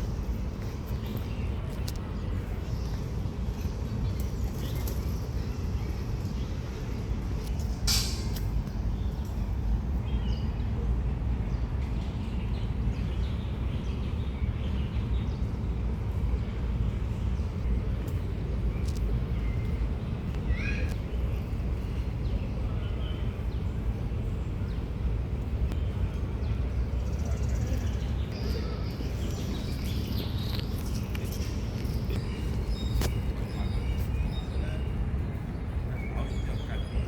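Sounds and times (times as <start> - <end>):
low street rumble: 0.0 - 37.0.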